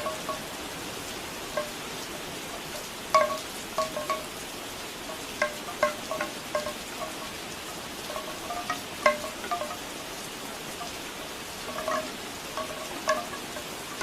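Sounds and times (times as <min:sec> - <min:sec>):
bamboo wind chimes clacking: 0:00.0 - 0:14.0
steady rain falling: 0:00.0 - 0:14.0.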